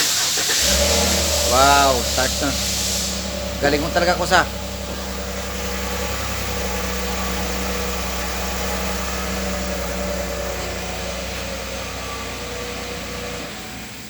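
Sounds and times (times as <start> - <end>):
truck engine idling: 0.4 - 14.0.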